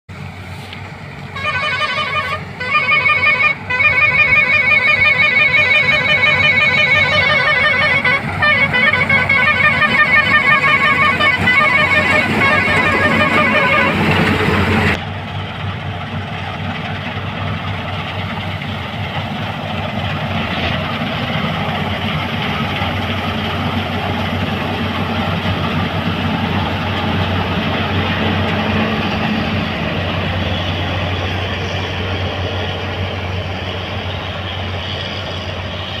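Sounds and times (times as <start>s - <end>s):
combine harvester machinery drone: 0.1s - 36.0s.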